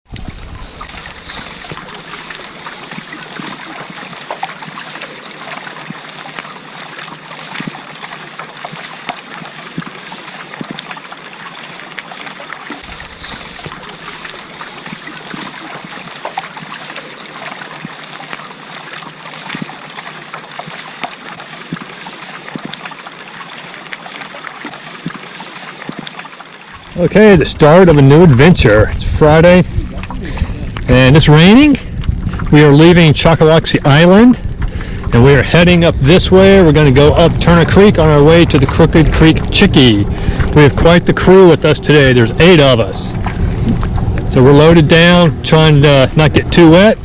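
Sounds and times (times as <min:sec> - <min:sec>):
rain falling on water: 0:00.1 - 0:47.0.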